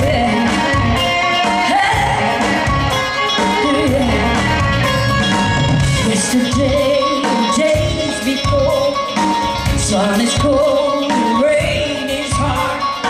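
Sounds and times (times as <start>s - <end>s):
woman singing lead vocal: 0.0s - 5.0s, 5.9s - 13.0s
electric guitar: 0.0s - 13.0s
steady drum beat: 0.0s - 13.0s.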